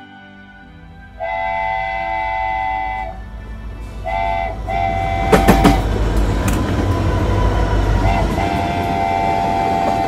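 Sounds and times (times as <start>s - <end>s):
train horn blasts: 0.0s - 6.1s, 7.1s - 10.0s
low rumble of moving train: 0.0s - 10.0s.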